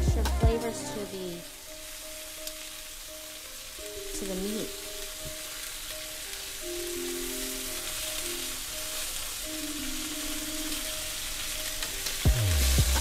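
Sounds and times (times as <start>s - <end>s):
background music of held notes: 0.0s - 13.0s
meat sizzling in a frying pan: 0.5s - 13.0s.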